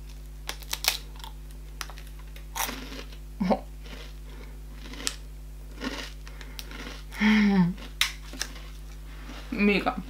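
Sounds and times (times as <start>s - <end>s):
person chewing wafer crunches: 0.0s - 3.2s, 3.8s - 9.5s.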